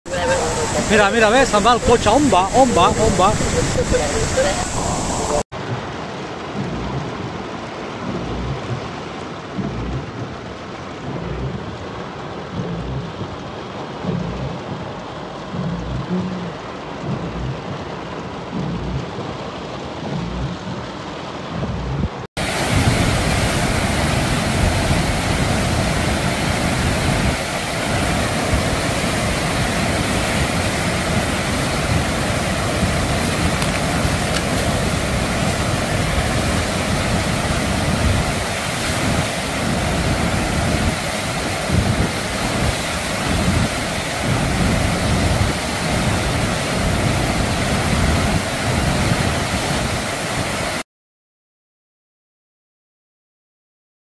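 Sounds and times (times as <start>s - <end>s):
floodwater rushing through channel: 0.1s - 50.8s
heavy rain: 0.1s - 50.8s
running water on street: 0.1s - 50.8s.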